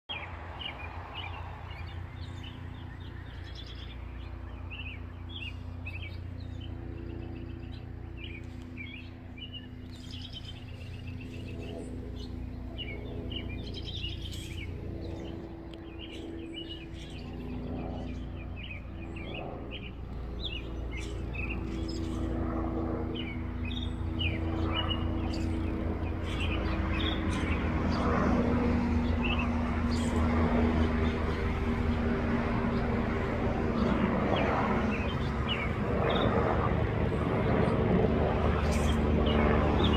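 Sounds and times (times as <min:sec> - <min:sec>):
helicopter drone: 0:00.1 - 0:39.9
small birds chirping: 0:00.1 - 0:39.9.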